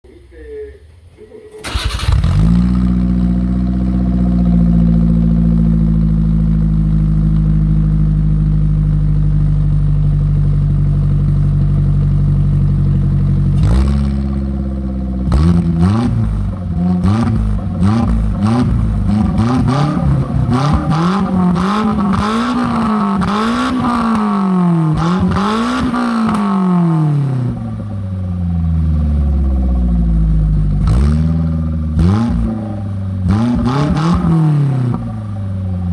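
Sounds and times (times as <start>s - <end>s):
car engine idling: 0.1s - 35.9s
car engine revving: 1.6s - 35.9s.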